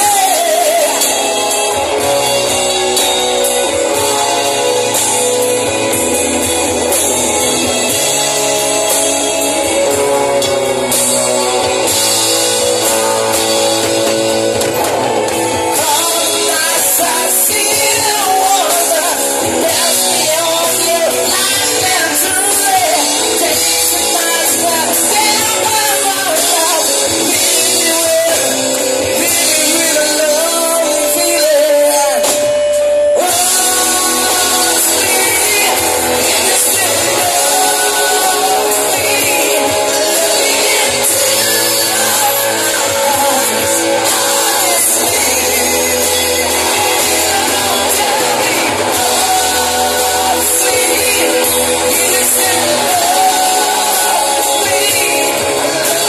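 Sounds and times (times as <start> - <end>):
bass guitar: 0.0 - 56.0
drum kit: 0.0 - 56.0
keyboard: 0.0 - 56.0
person singing: 0.0 - 56.0.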